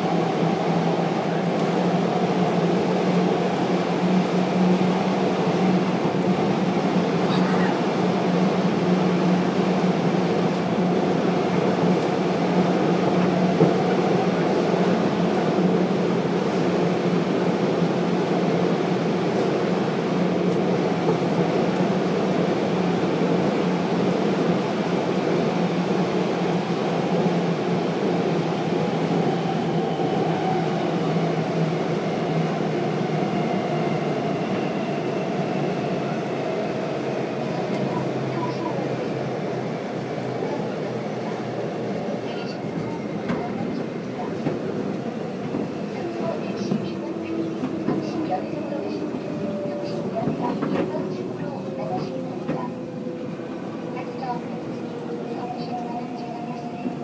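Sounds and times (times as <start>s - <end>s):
subway train rumble: 0.0s - 57.0s.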